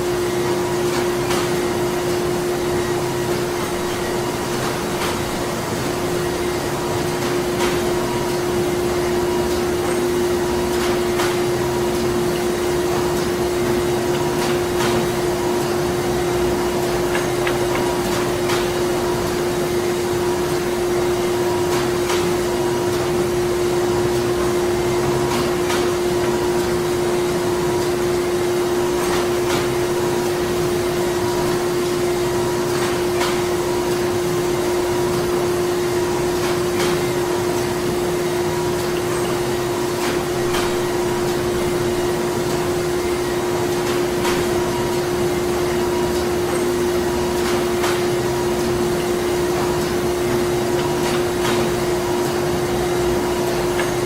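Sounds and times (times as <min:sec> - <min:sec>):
printing machinery humming: 0:00.0 - 0:54.0.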